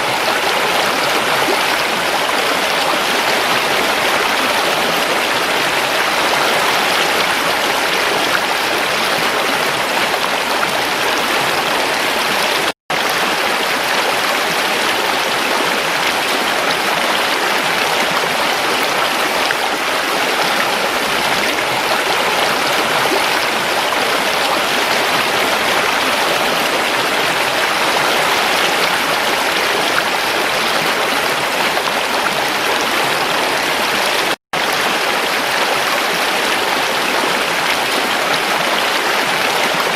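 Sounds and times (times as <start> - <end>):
creek water running: 0.0 - 39.9.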